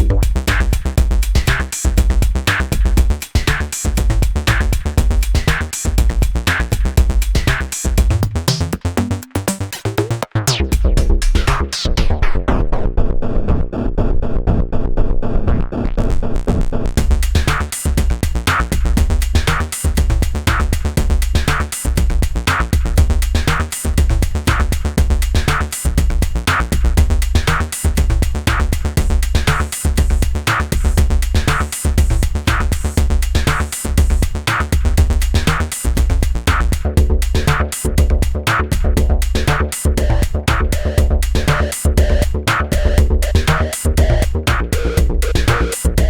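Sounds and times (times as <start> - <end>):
electronic synthesizer groove: 0.0 - 12.6, 17.0 - 46.0.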